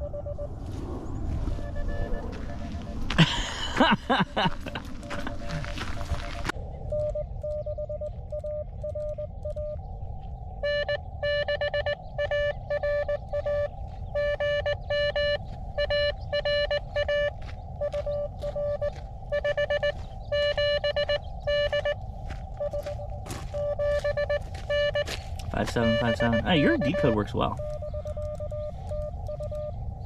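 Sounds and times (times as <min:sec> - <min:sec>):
morse code tones: 0:00.0 - 0:00.6, 0:01.6 - 0:03.1, 0:05.0 - 0:09.8, 0:10.6 - 0:30.0
low background rumble: 0:00.0 - 0:30.0.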